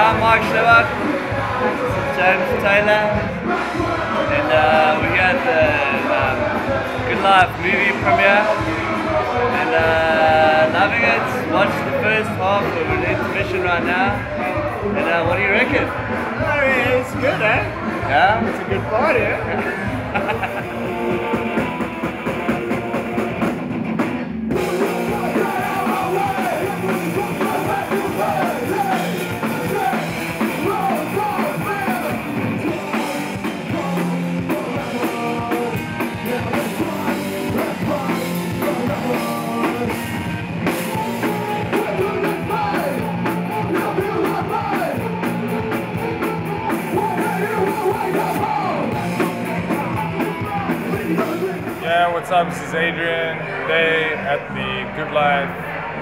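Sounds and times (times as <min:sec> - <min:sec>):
man singing: 0:00.0 - 0:23.6, 0:24.5 - 0:55.5
electric guitars: 0:00.0 - 0:51.9
drum kit: 0:00.0 - 0:52.3.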